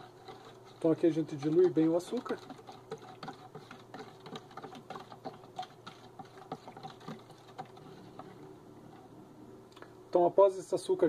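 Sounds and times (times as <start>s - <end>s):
utensil scraping plastic jug: 0.0s - 9.0s.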